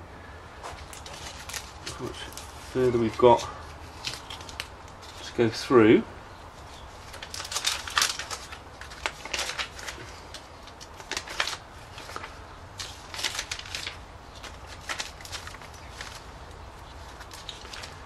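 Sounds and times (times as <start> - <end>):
glossy paper pages turning: 0.7 - 5.4, 6.6 - 18.0.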